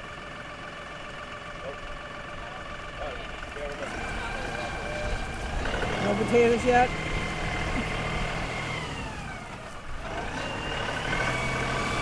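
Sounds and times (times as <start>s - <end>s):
tractor diesel engine whining: 0.0s - 12.0s.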